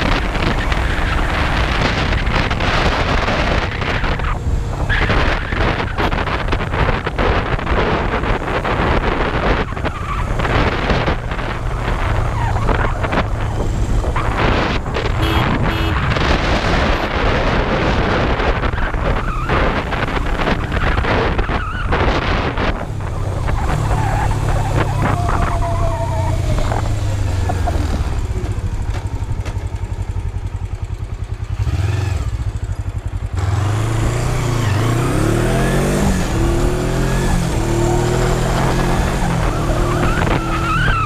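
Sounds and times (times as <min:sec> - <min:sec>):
motorcycle engine running: 0:00.0 - 0:21.4, 0:22.0 - 0:34.6
wind rushing over microphone: 0:00.0 - 0:41.0.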